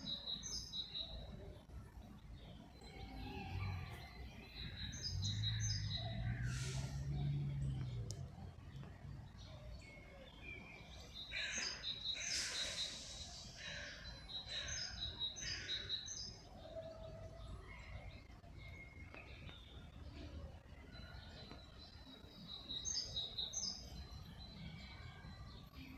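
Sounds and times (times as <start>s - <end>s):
songbirds chirping: 0.0s - 25.9s.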